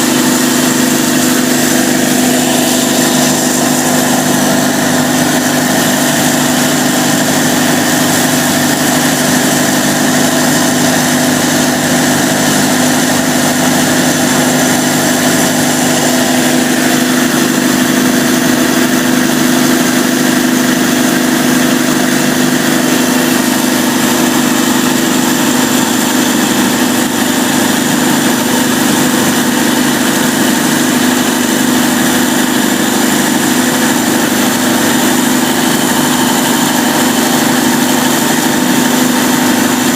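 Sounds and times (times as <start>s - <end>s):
diesel generator droning: 0.0s - 39.9s.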